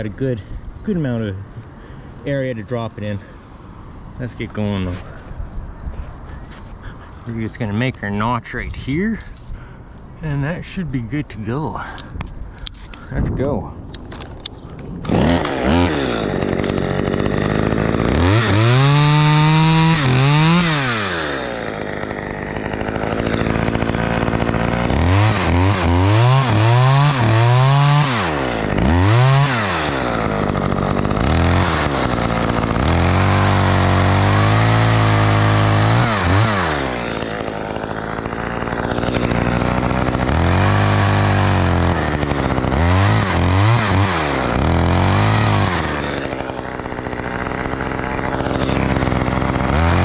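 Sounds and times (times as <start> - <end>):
chainsaw revving: 0.0 - 5.2, 6.8 - 9.7, 14.0 - 50.0.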